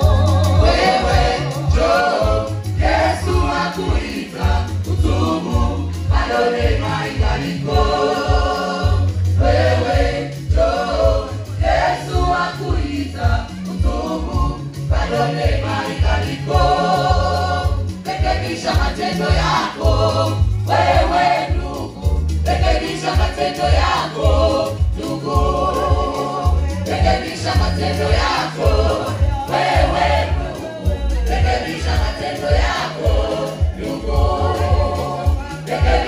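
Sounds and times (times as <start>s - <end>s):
keyboard: 0.0s - 36.0s
pulsing bass line: 0.0s - 36.0s
women's choir singing gospel: 0.0s - 36.0s.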